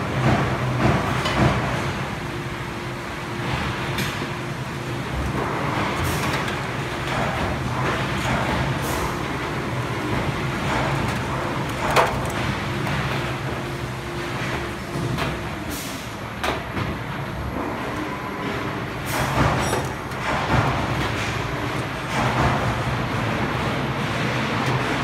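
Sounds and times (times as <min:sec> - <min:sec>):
factory machinery humming: 0:00.0 - 0:25.0.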